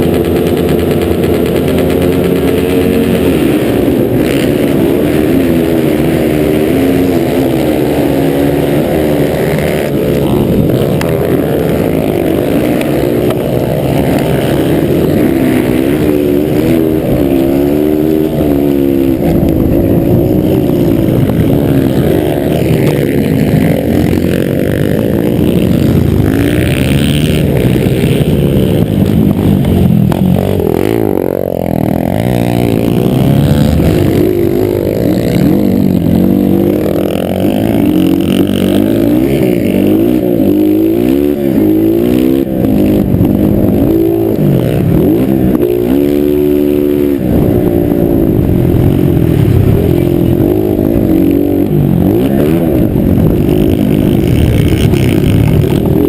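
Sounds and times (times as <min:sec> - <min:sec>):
motocross motorcycle engines revving: 0:00.0 - 0:56.0.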